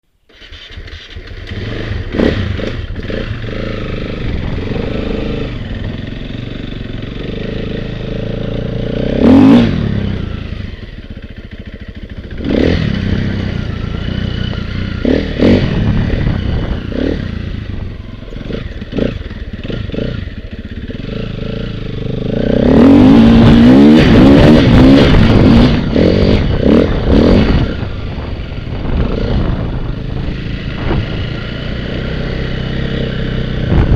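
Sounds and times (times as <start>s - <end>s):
small engine revving: 0.3s - 33.9s.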